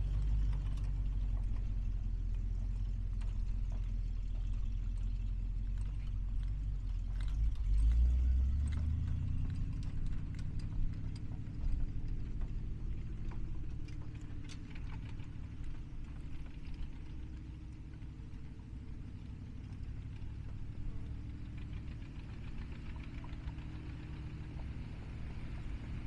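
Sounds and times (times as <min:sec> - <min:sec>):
light clicks and rattles: 0:00.0 - 0:26.0
truck engine accelerating: 0:00.0 - 0:26.0.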